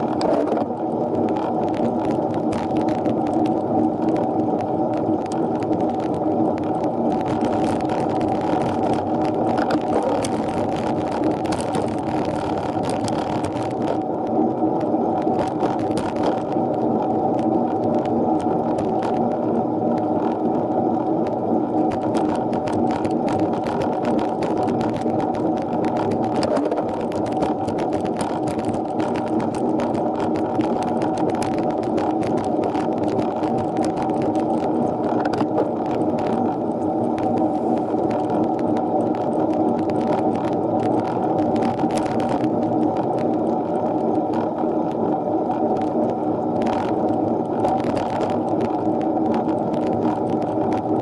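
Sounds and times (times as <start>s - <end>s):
bicycle whirring: 0.0s - 51.0s
small clicks and rattles: 0.0s - 51.0s.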